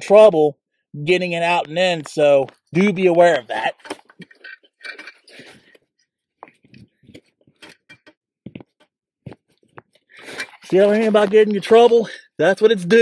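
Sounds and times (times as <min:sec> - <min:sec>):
plastic and wires rustling: 0:01.6 - 0:12.1.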